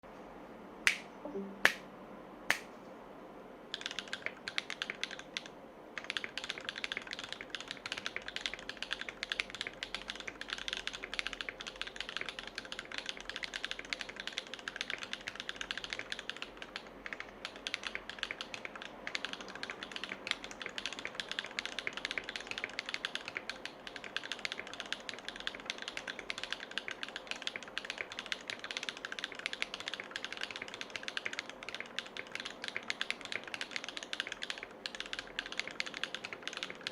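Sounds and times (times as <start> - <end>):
mechanical keyboard typing: 3.7 - 36.9.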